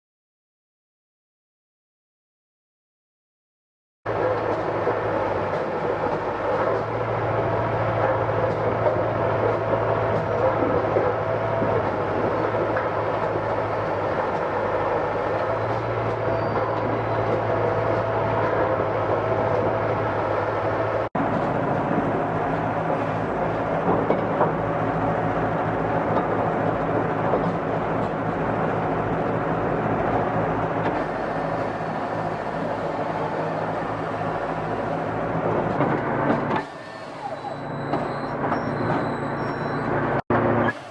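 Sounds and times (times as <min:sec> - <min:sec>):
machinery humming: 0:04.1 - 0:40.9.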